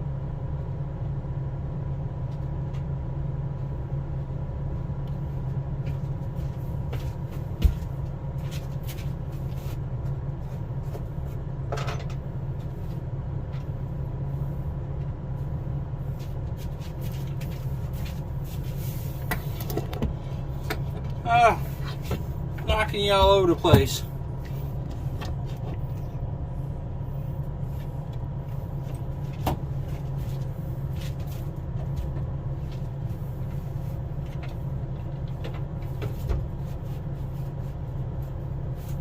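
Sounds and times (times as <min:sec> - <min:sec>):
vehicle low rumble: 0:00.0 - 0:39.0.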